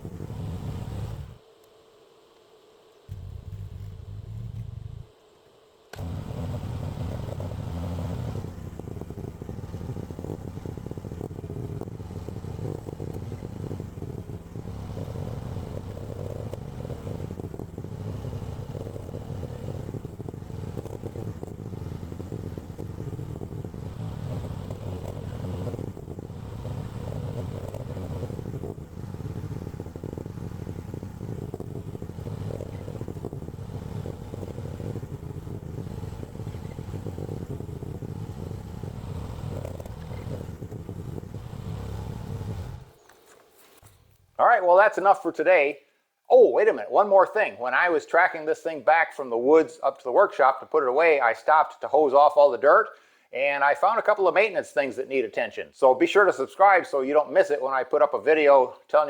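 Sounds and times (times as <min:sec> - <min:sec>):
small excavator engine running: 0:00.0 - 0:54.2.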